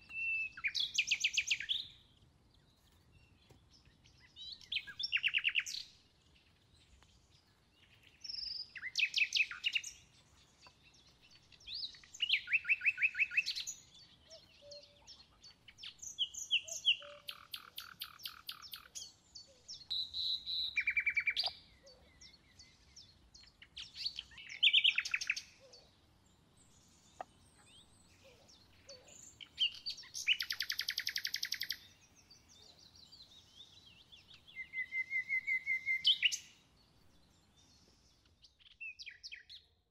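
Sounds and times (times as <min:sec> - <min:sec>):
songbirds trilling: 0:00.0 - 0:39.8.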